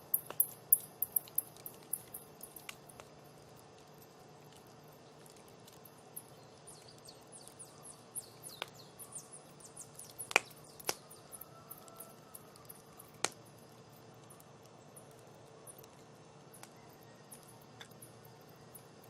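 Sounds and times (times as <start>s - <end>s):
wood campfire crackling: 0.0s - 19.0s.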